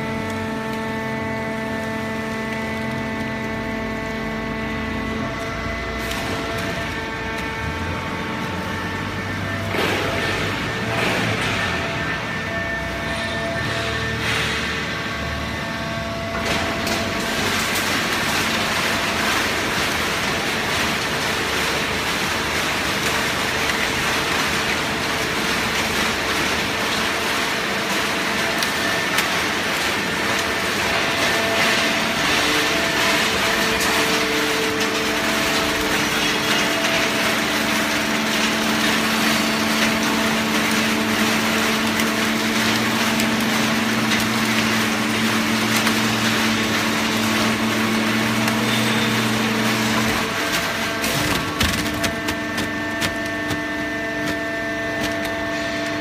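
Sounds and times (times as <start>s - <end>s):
deeper hum: 0.0s - 56.0s
hydraulic power unit hum: 0.0s - 56.0s.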